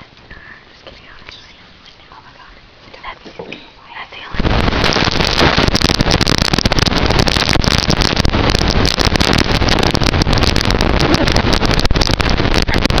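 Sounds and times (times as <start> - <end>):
harsh crackling static: 0.0 - 13.0.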